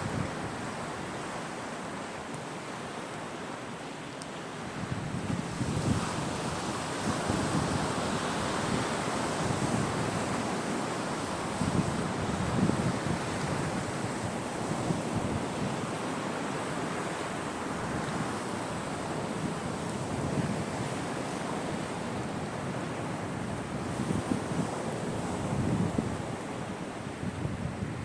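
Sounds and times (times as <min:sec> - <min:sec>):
sea waves breaking on beach: 0:00.0 - 0:28.0.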